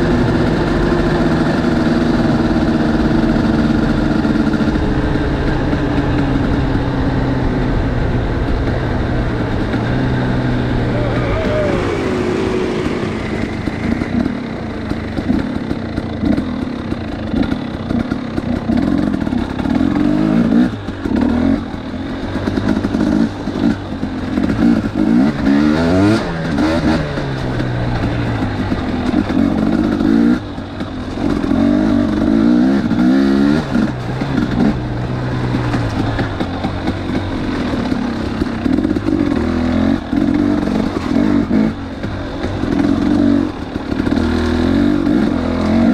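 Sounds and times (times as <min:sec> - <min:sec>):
clatter: 0:00.0 - 0:10.5, 0:12.2 - 0:45.9
dirt bike engine revving: 0:00.0 - 0:45.9.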